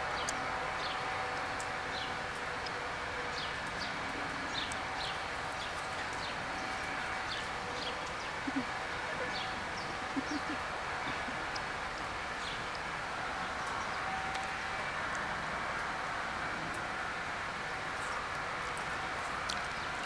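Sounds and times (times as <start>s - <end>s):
steady outdoor hum: 0.0s - 20.0s.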